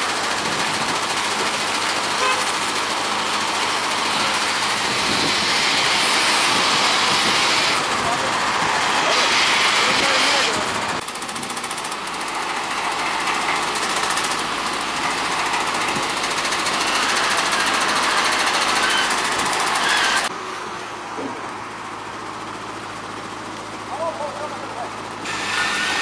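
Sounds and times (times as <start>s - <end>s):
steady street hum: 0.0s - 26.0s
truck engine and winch rattling: 0.0s - 26.0s.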